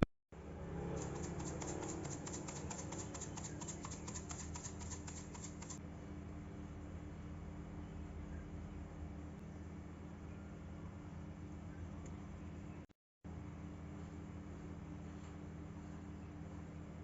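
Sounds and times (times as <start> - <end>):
steady low hum: 0.4 - 17.0.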